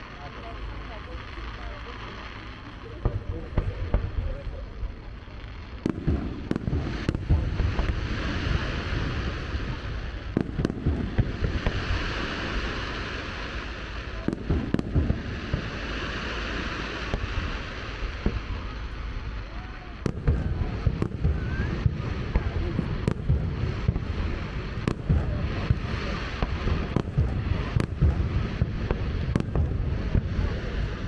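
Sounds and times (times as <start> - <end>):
fireworks bangs: 0.0 - 31.0
low rumble of booms and echoes: 0.0 - 31.0
high hiss: 3.6 - 31.0.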